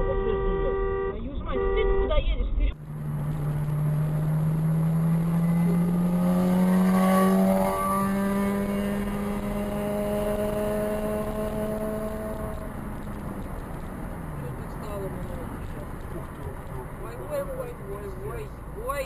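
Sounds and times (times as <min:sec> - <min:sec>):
vehicle engine drone: 0:02.4 - 0:19.0
motorcycle overtaking: 0:02.8 - 0:18.6.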